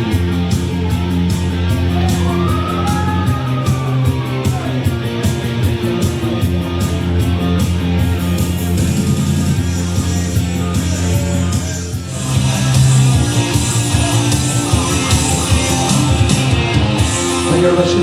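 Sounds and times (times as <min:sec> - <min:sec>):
rock music with guitar: 0:00.0 - 0:18.0.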